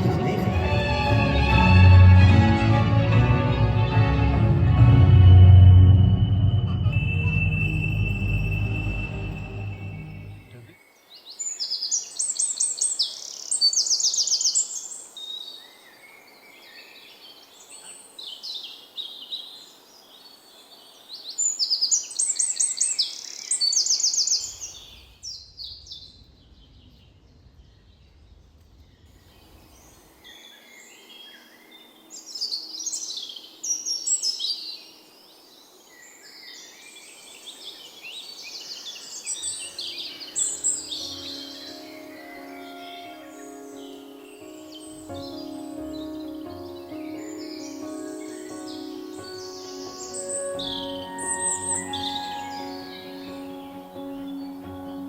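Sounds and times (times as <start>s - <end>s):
songbirds singing: 6.9s - 55.0s.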